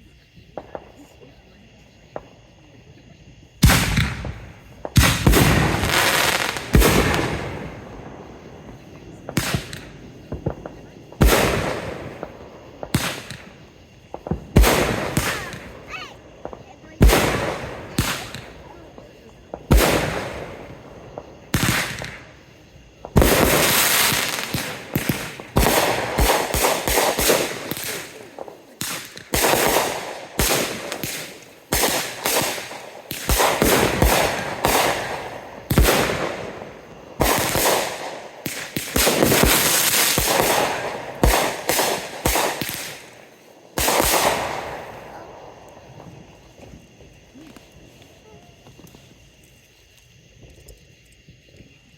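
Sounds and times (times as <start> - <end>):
fireworks banging and crackling: 0.2 - 51.9.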